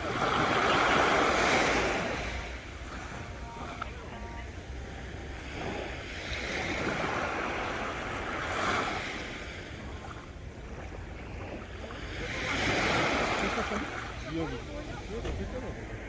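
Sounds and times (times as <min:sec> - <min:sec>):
sea waves washing onto shore: 0:00.0 - 0:16.0.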